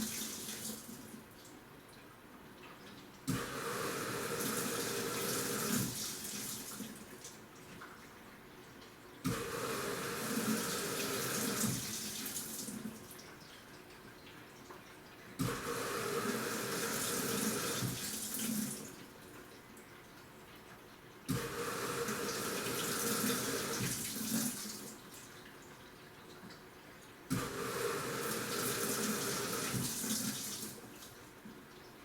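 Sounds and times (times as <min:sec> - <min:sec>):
washing machine water sloshing: 0:02.7 - 0:20.0, 0:21.3 - 0:32.0.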